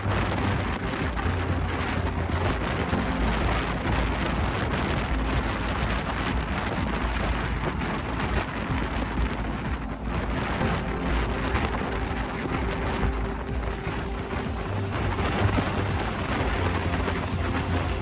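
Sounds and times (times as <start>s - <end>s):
train rumble and clatter: 0.0s - 18.0s
wind buffeting microphone: 0.0s - 18.0s.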